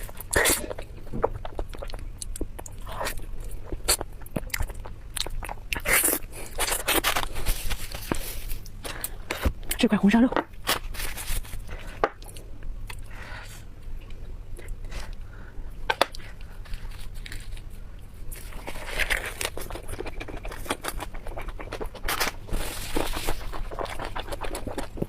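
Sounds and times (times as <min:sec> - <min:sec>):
person chewing food: 0:00.0 - 0:09.6, 0:10.6 - 0:25.0.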